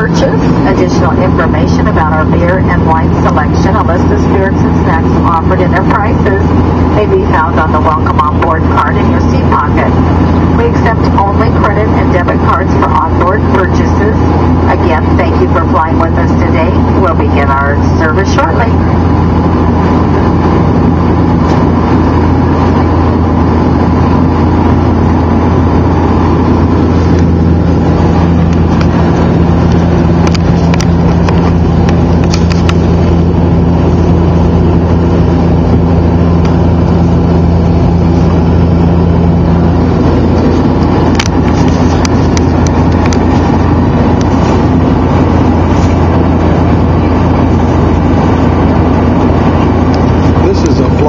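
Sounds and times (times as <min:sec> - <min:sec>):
higher engine tone: 0:00.0 - 0:51.0
propeller engine drone in cabin: 0:00.0 - 0:51.0.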